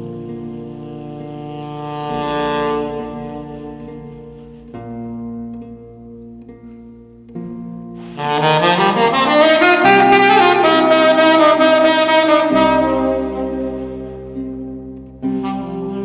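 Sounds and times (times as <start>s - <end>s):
saxophone playing slow line: 0.0s - 6.0s, 7.4s - 16.0s
low held tones: 0.0s - 16.0s.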